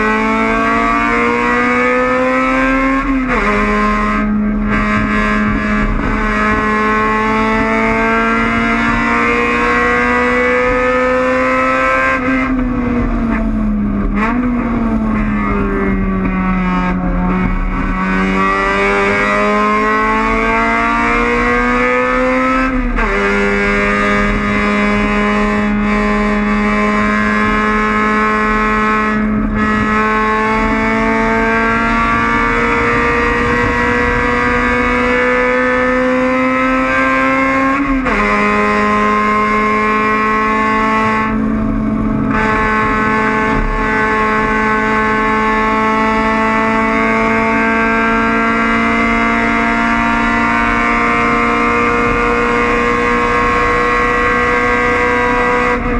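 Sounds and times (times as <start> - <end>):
race car engine at full throttle: 0.0 - 55.9.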